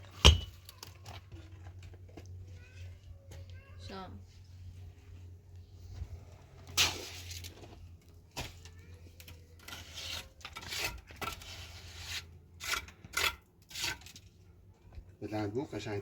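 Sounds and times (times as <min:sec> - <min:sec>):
rustling and scraping: 0:00.0 - 0:15.1.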